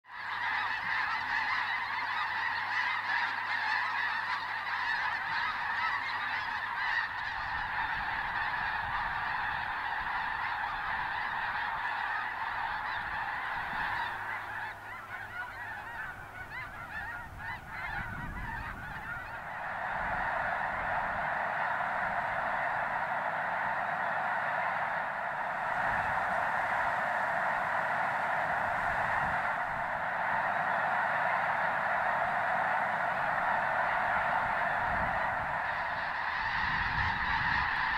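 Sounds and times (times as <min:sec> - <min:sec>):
geese honking: 0:00.1 - 0:37.9.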